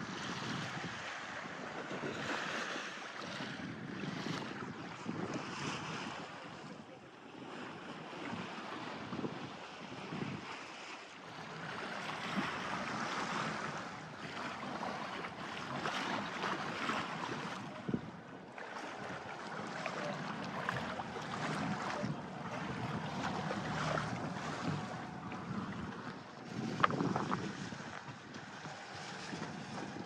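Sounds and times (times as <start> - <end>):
water rushing along a hull: 0.0 - 30.0
wind on the microphone: 0.0 - 30.0.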